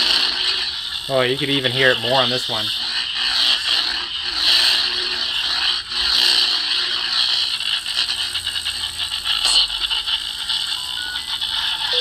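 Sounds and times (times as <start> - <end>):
buzzy lightsaber hum: 0.0 - 12.0.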